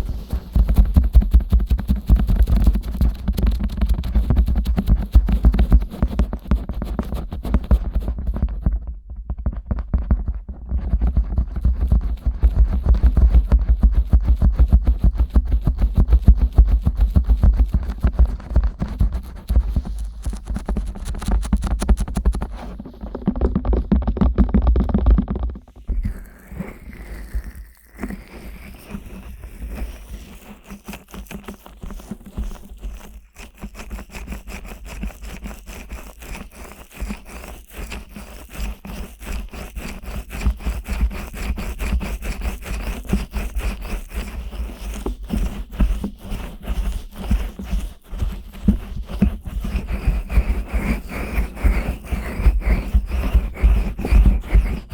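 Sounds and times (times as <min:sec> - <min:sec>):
fingers scratching microphone: 0:00.0 - 0:54.9.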